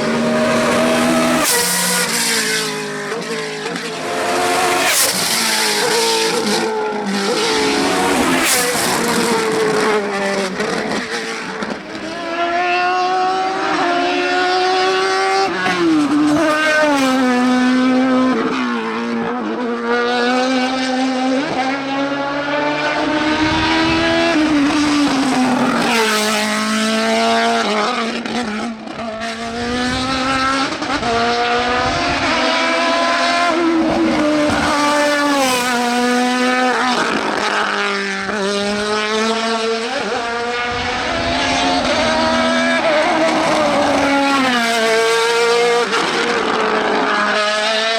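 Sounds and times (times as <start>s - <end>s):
race car engine at high revs: 0.0s - 47.9s.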